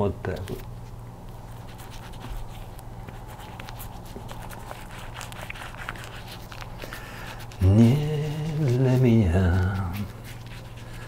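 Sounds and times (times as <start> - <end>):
steady low hum: 0.0 - 11.0
lather rubbed on face: 1.6 - 11.0.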